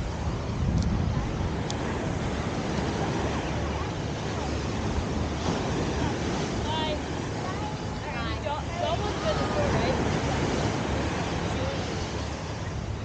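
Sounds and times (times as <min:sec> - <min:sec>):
breaking surf: 0:00.0 - 0:13.0
faint voices: 0:00.0 - 0:13.0
wind buffeting microphone: 0:00.0 - 0:13.0.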